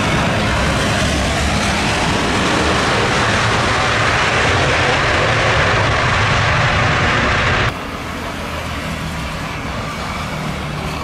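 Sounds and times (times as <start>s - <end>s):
jet engines running loud: 0.0s - 11.0s.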